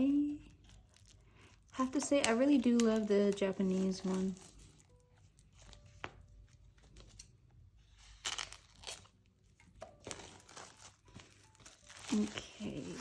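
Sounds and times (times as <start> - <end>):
plastic shrink-wrap crinkling: 0.0 - 13.0.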